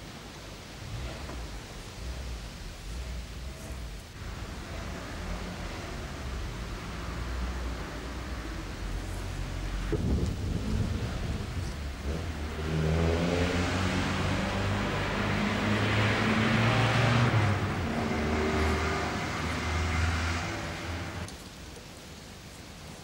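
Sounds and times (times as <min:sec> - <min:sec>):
tyre and road noise: 0:00.0 - 0:21.5
vehicle engine hum: 0:00.8 - 0:21.3.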